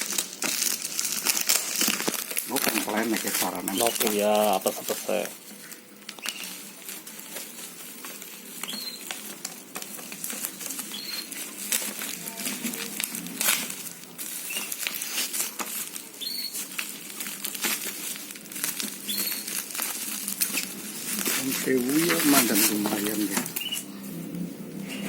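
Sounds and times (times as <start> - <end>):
packaging rustling and clicking: 0.0 - 25.0.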